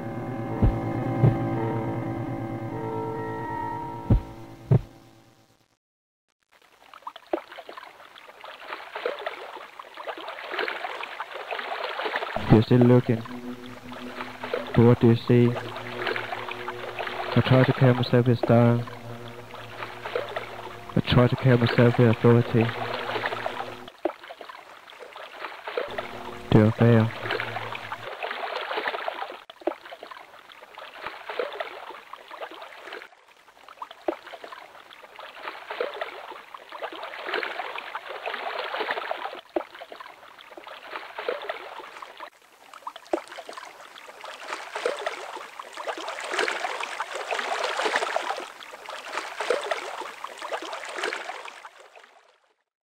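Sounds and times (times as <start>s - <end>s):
water splashing and lapping: 6.5s - 52.6s.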